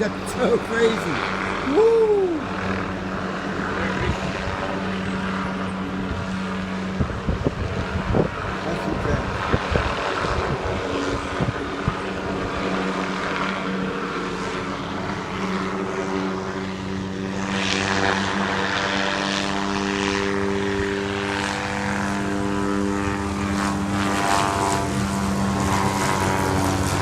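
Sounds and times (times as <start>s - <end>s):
helicopter hovering: 0.0s - 27.0s.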